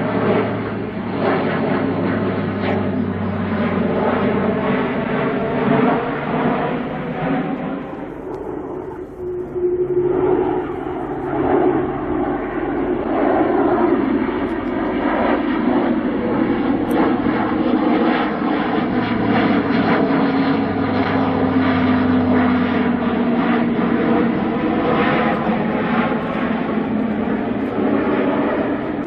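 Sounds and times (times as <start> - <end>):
turboprop aircraft flying past: 0.0 - 29.0.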